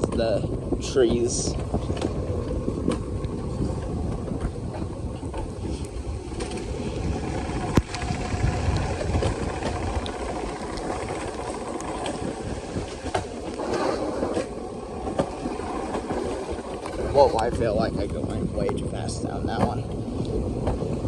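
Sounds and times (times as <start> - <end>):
sled wheels rumbling on rail: 0.0 - 21.0.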